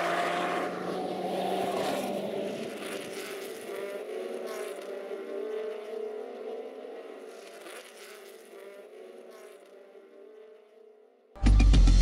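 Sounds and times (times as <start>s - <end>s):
race car engine: 0.0s - 12.0s.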